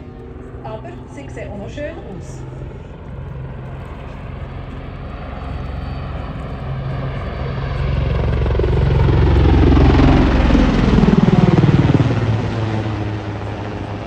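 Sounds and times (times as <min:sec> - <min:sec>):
helicopter flying past: 0:00.0 - 0:14.0.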